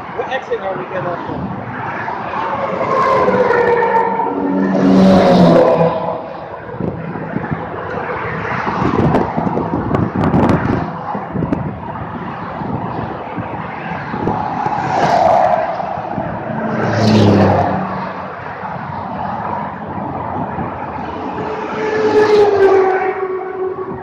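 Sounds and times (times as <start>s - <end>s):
wind rush: 0.0s - 24.0s.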